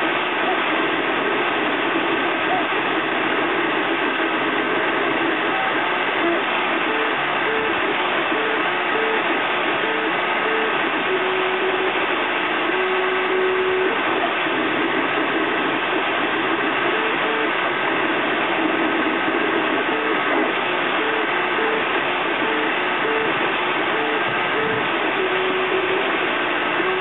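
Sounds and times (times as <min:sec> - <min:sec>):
cooling fans rushing: 0:00.0 - 0:27.0
stepper motors singing: 0:02.3 - 0:27.0.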